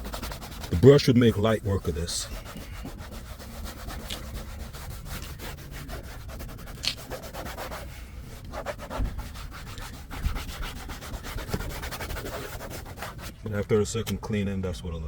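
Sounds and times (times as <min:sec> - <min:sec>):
hand scrubbing car door panel: 0:00.0 - 0:14.2.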